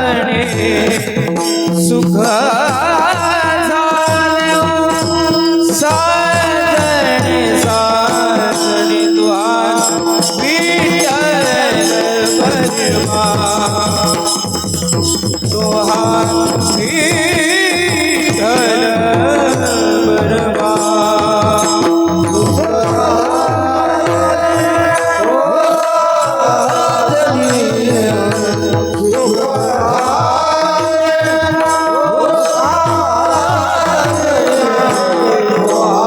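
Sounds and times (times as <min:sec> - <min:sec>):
person singing ornamented melody: 0:00.0 - 0:36.0.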